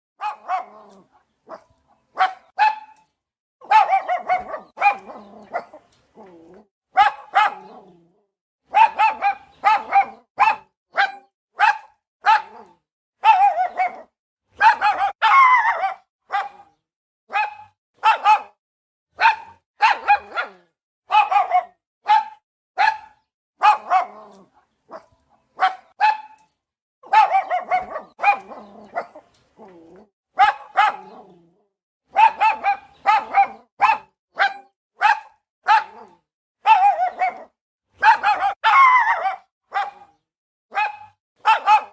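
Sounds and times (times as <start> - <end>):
small dog barking: 0.2 - 5.8, 6.9 - 8.0, 8.7 - 18.6, 19.2 - 26.4, 27.0 - 29.8, 30.4 - 31.4, 32.1 - 41.9.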